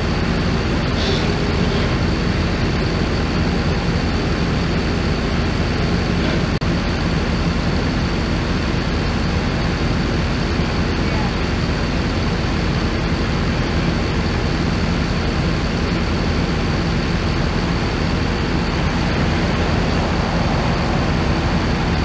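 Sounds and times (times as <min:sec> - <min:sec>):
pickup truck engine running: 0:00.0 - 0:22.0.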